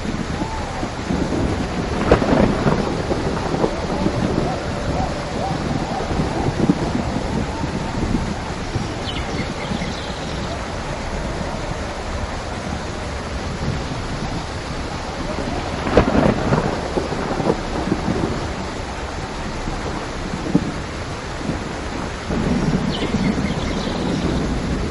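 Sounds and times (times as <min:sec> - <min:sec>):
rain falling: 0:00.0 - 0:24.9
thunderclap: 0:00.0 - 0:24.9.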